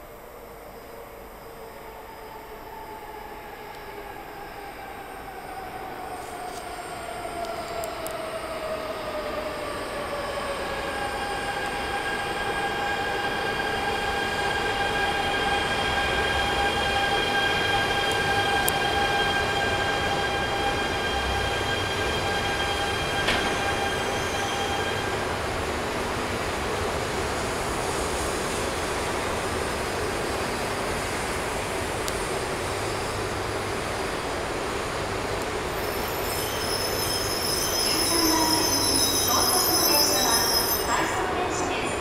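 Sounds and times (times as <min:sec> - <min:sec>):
electric train whine: 0:00.0 - 0:42.0.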